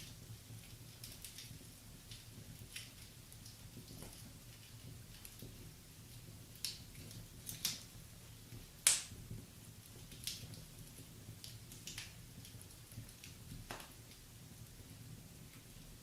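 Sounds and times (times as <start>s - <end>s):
fire popping: 0.0s - 16.0s
wood fire crackling: 0.0s - 16.0s.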